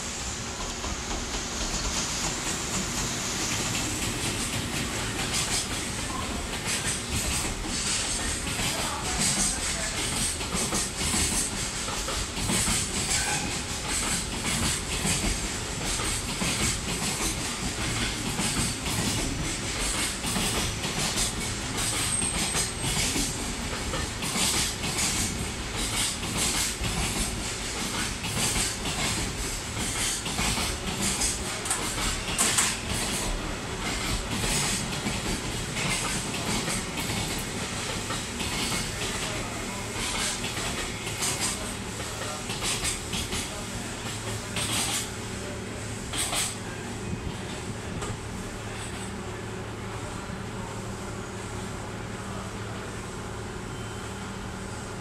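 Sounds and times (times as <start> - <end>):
train wheels clickety-clack: 0.0 - 49.2
train rumble and hiss: 0.0 - 55.0.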